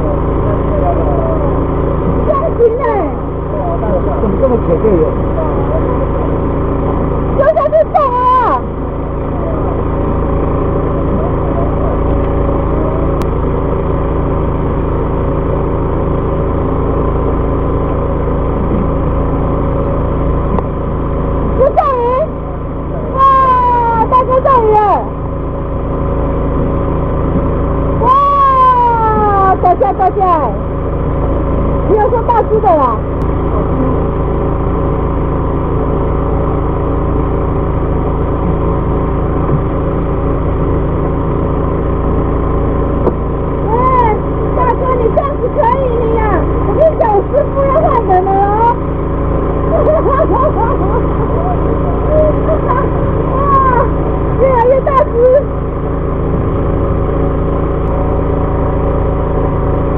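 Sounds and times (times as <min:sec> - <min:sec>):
boat engine idling: 0:00.0 - 0:59.9.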